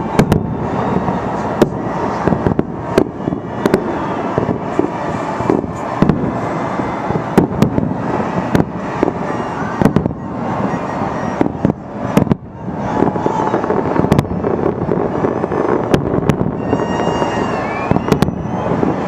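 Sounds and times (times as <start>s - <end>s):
fireworks crackling and popping: 0.0s - 19.0s
sharp firework bangs: 0.0s - 19.0s.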